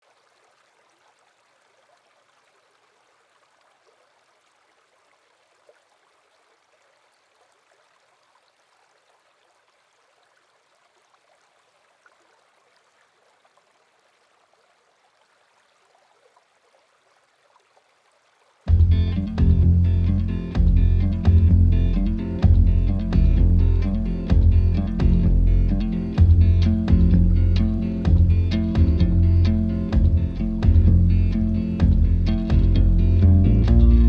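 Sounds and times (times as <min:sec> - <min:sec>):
faint flowing stream water: 0:00.0 - 0:34.0.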